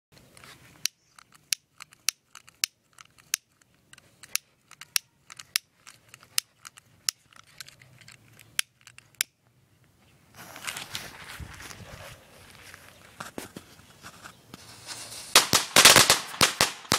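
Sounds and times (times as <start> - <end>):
rustling noise: 0.2 - 9.2, 10.3 - 15.4.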